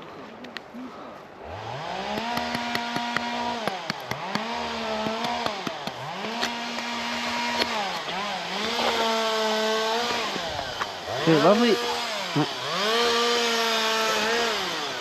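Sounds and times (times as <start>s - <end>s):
chainsaw revving: 1.4s - 15.0s.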